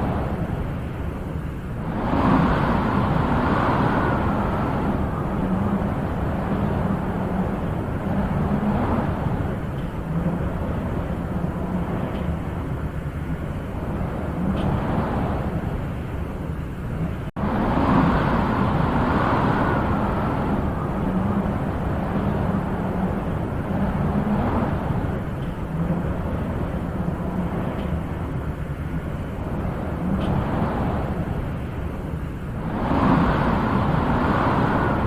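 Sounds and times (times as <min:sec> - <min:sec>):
wind blowing with gusts: 0:00.0 - 0:35.0.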